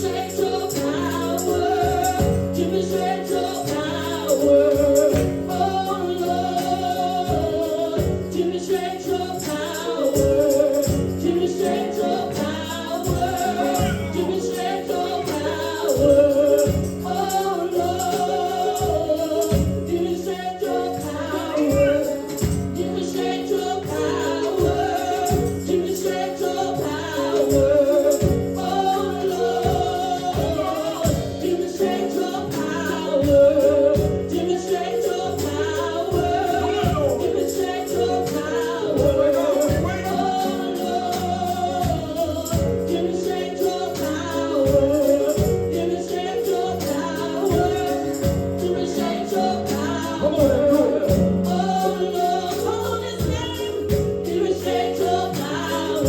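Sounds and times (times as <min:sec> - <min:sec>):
congregation singing over a band: 0:00.0 - 0:56.0
tambourine beat: 0:00.0 - 0:56.0.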